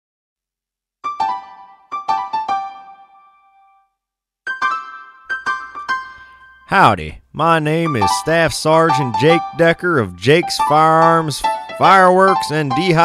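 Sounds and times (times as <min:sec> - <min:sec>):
piano-like keyboard jingle: 0:01.1 - 0:03.9, 0:04.5 - 0:13.0.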